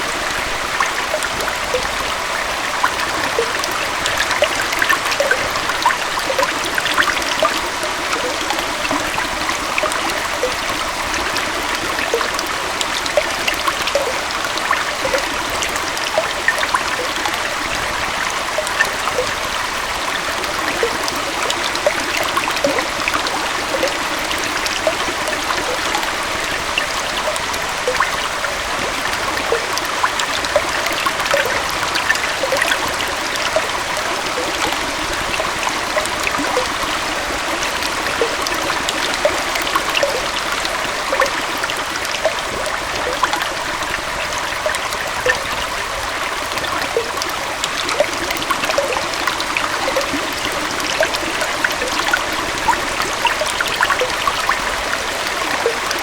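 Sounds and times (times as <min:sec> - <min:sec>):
waterfall and stream flowing: 0:00.0 - 0:56.0.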